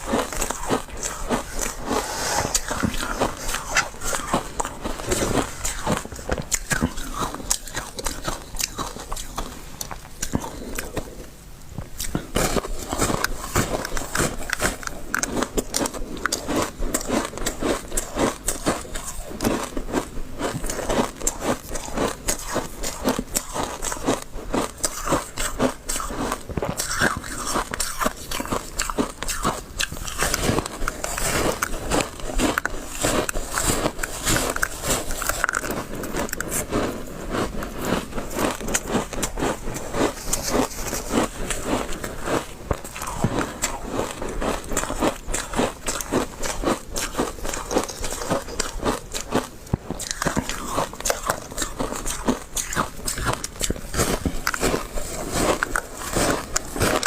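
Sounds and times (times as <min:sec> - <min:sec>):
person chewing crunchy ice: 0:00.0 - 0:57.0.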